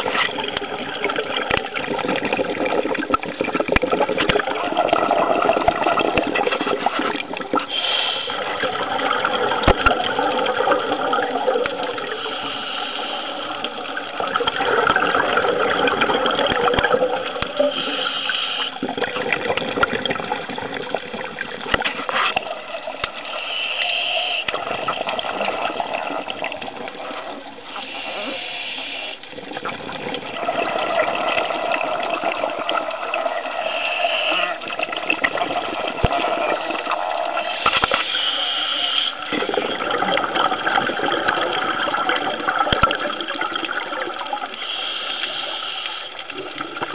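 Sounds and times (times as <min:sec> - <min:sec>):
muffled underwater water rushing: 0:00.0 - 0:46.9.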